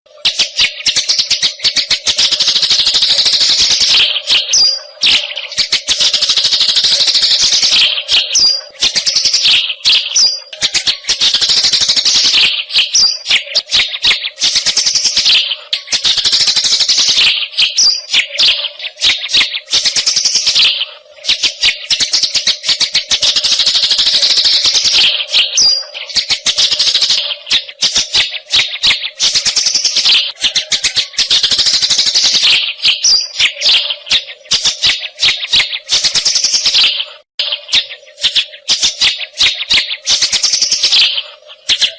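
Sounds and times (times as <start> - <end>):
sparrow chirping: 0.2 - 41.9.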